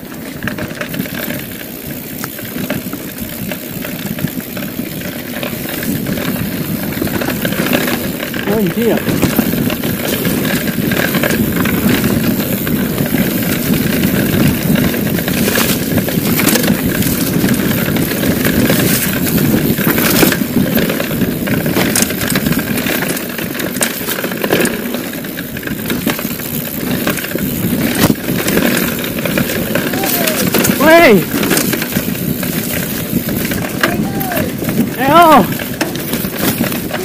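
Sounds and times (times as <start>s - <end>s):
bike rattling over bumps: 0.0s - 37.0s
wind and tyres rumbling: 0.0s - 37.0s.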